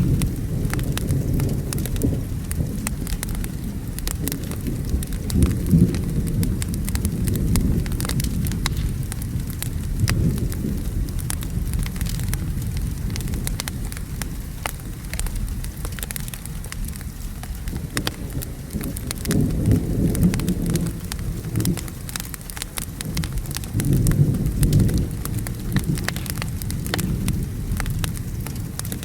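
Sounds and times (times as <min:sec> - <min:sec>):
steady rain: 0:00.0 - 0:29.0
thunder rumble: 0:00.0 - 0:29.0
wood fire crackling: 0:00.0 - 0:29.0.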